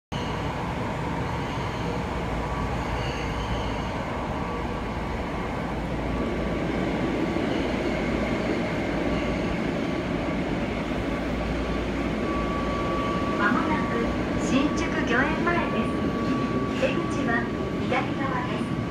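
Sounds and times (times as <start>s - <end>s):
subway train rumble and hiss: 0.2s - 18.9s.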